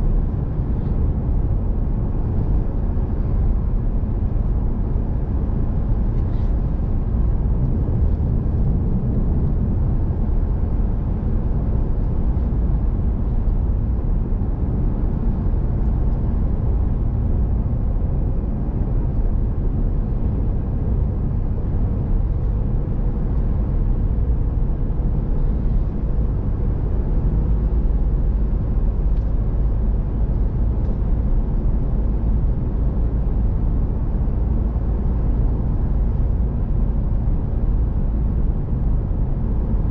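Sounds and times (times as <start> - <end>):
vehicle road noise from inside: 0.0 - 39.9.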